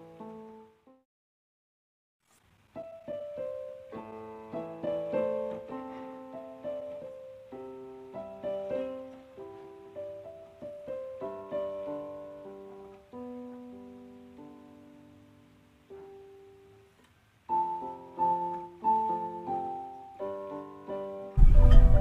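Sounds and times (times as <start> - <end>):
slow solo piano music: 0.0 - 1.0, 2.8 - 22.0.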